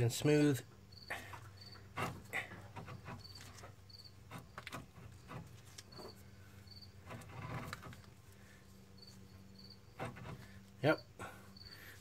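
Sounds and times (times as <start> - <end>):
crickets chirping: 0.0 - 12.0
wheel bearing rumbling: 1.2 - 12.0.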